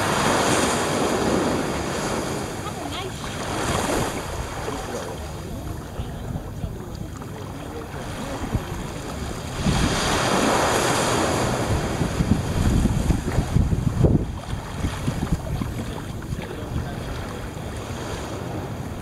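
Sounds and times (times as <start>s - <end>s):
small waves washing on sand: 0.0s - 19.0s
wind buffeting microphone: 0.0s - 19.0s.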